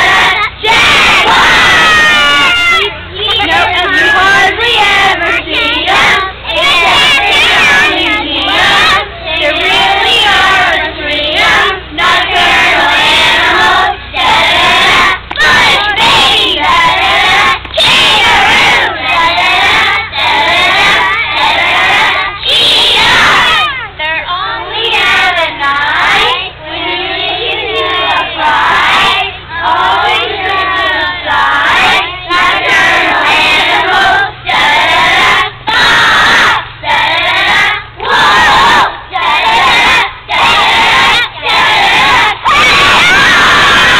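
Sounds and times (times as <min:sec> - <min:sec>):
children singing in unison: 0:00.0 - 0:23.7, 0:24.3 - 0:43.9.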